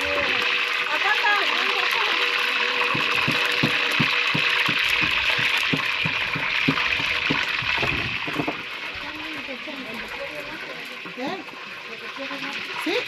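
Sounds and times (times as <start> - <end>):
hot oil sizzling in a pot: 0.0 - 13.0.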